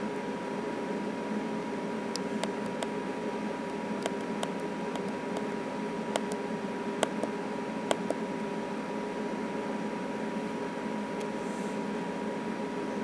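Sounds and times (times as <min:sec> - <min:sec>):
steady hum and hiss: 0:00.0 - 0:13.0.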